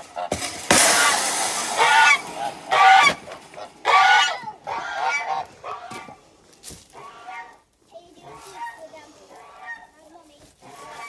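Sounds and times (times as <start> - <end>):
geese honking: 0.0 - 10.0, 10.6 - 11.0.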